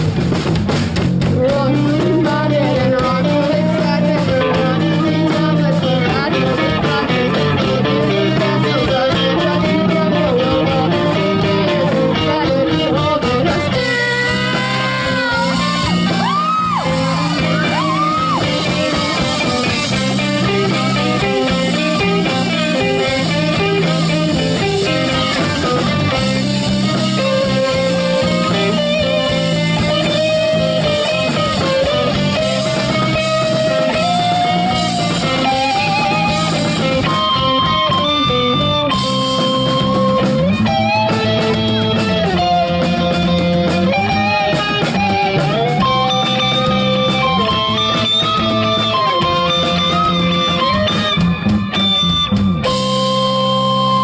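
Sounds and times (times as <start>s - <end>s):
rock band playing: 0.0s - 54.0s
lead guitar sustained notes: 1.5s - 54.0s.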